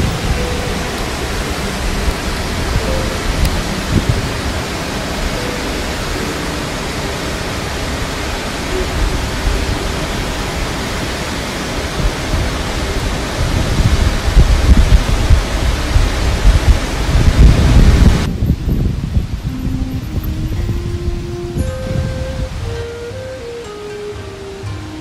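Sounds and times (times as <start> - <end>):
wind buffeting microphone: 0.0 - 23.7
waterfall rushing: 0.0 - 25.0.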